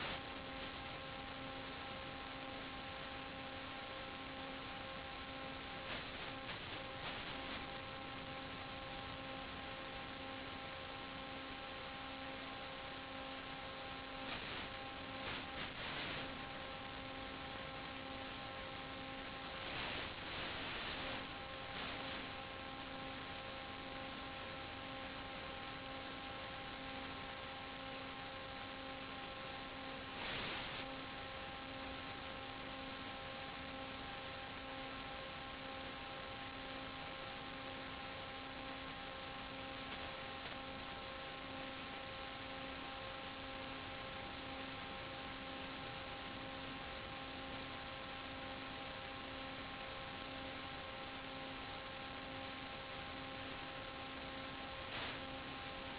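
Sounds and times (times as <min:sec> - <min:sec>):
constant droning hum: 0:00.0 - 0:55.9
radio static hiss: 0:00.0 - 0:55.9.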